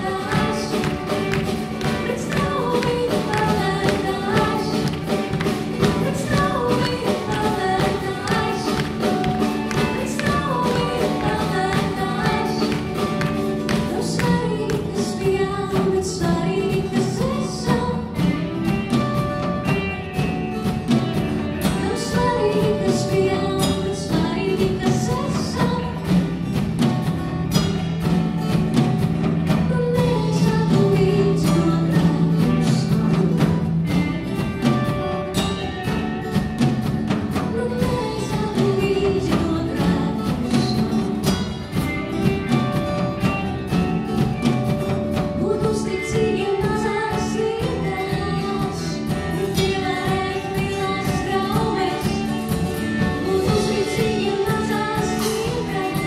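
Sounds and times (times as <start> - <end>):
woman singing: 0.0 - 27.2, 28.4 - 56.0
band with guitars and drums: 0.0 - 56.0.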